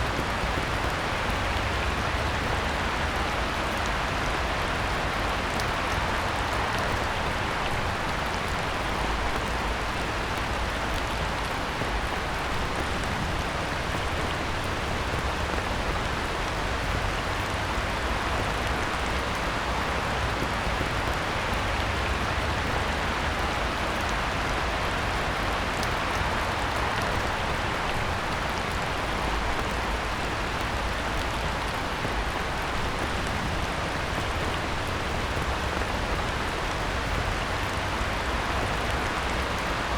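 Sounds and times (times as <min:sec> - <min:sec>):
heavy rain on pond: 0:00.0 - 0:39.9.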